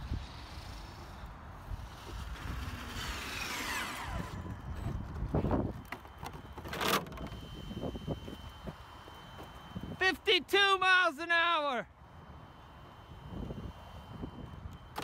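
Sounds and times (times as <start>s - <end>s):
electric motor whining: 0.0s - 10.0s, 11.9s - 15.0s.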